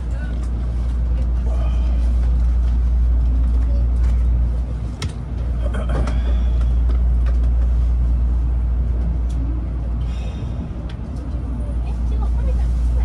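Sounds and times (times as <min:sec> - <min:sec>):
train running low rumble: 0:00.0 - 0:13.0.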